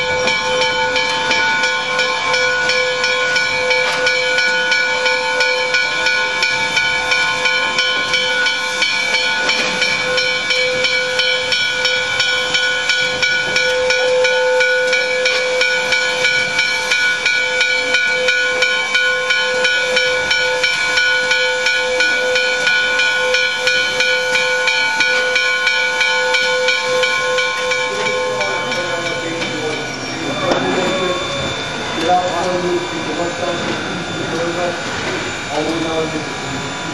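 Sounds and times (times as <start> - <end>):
steam locomotive hissing: 0.0 - 36.9.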